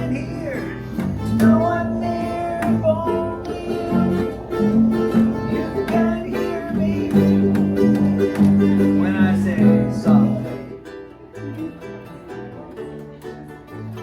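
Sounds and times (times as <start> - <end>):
plucked guitar music: 0.0 - 14.0.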